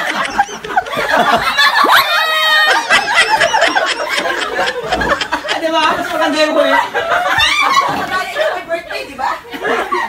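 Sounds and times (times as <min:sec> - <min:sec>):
people laughing and shrieking: 0:00.0 - 0:10.0.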